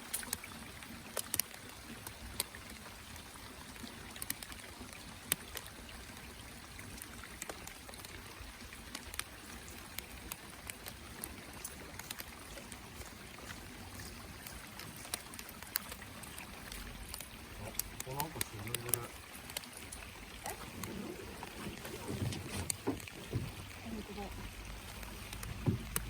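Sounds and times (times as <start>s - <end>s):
water drips: 0.0s - 26.0s
water trickling: 0.0s - 26.0s.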